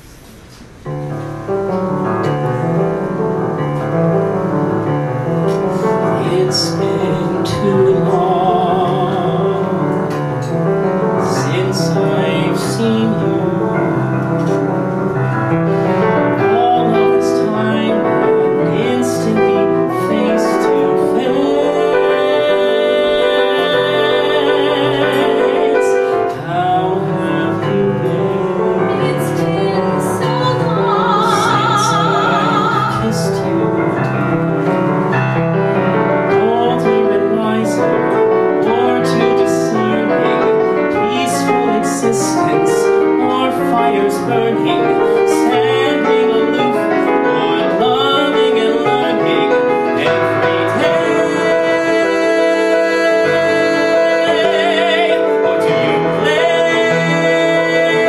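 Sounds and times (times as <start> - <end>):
piano playing: 0.0 - 58.0
woman and man singing duet: 5.8 - 14.6, 15.6 - 34.4, 36.2 - 58.0.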